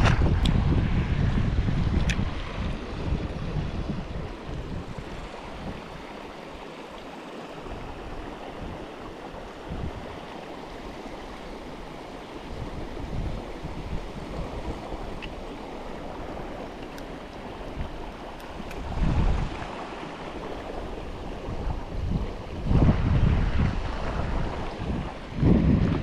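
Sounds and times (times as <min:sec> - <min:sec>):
river water flowing: 0:00.0 - 0:26.0
wind buffeting microphone: 0:00.0 - 0:26.0.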